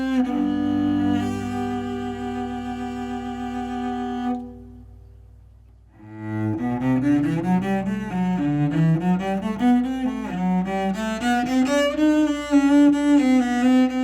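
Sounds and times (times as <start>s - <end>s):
cello bowed: 0.0s - 5.3s, 5.9s - 14.0s.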